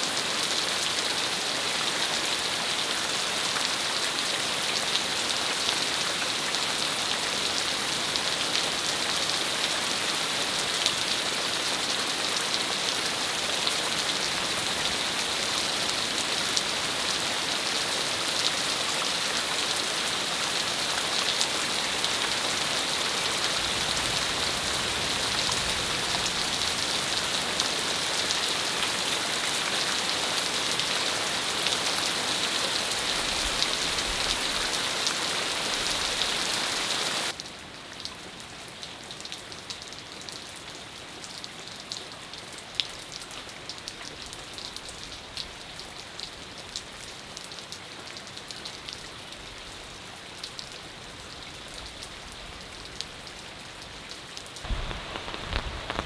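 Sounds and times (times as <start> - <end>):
heavy rain falling: 0.0 - 37.4, 41.6 - 56.0.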